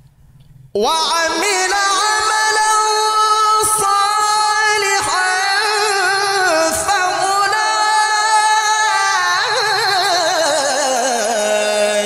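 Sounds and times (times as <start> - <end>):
man reciting in melismatic chant: 0.8 - 12.0.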